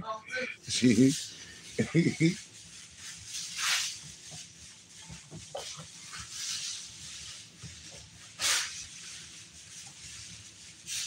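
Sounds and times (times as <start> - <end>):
puppies rustling on pads: 1.0 - 11.0.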